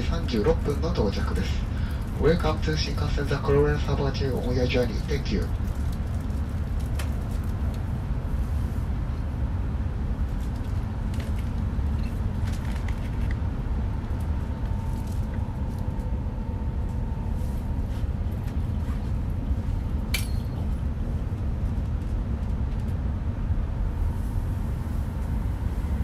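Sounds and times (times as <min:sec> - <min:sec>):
train cabin low rumble: 0:00.0 - 0:26.0.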